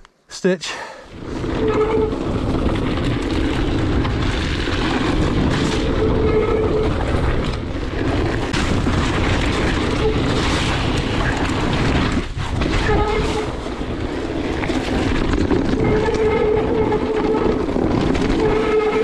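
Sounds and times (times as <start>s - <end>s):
bike tyres rumbling on gravel: 1.1s - 19.0s
wind buffeting microphone: 1.1s - 19.0s.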